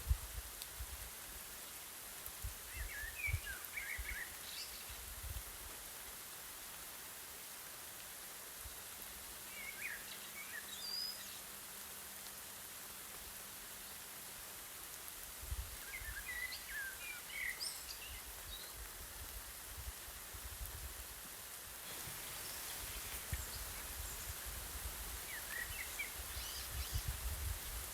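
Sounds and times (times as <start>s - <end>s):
light rain hiss: 0.0s - 27.9s.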